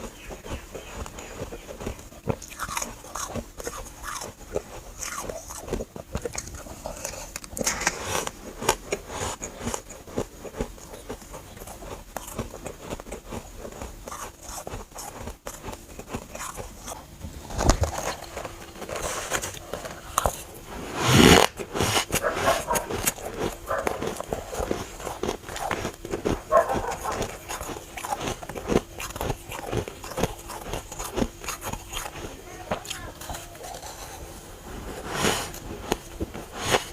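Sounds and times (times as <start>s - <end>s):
chewing crunchy frost: 0.0s - 36.9s.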